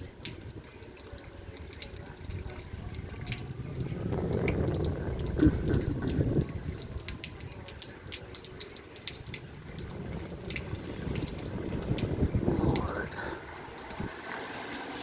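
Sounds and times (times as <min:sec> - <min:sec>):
rain: 0:00.0 - 0:15.0
storm wind rumbling on microphone: 0:00.0 - 0:15.0.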